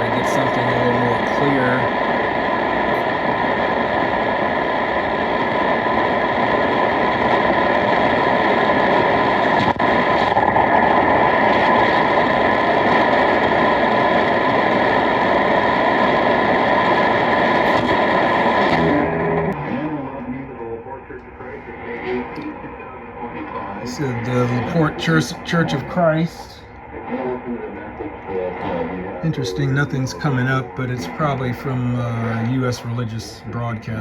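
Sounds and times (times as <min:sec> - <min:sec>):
shortwave radio static: 0:00.0 - 0:34.0.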